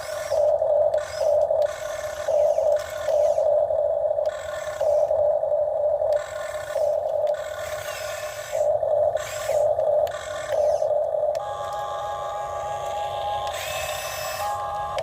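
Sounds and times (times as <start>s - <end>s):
electric motors whining: 0.0s - 15.0s
steady hum: 0.0s - 15.0s.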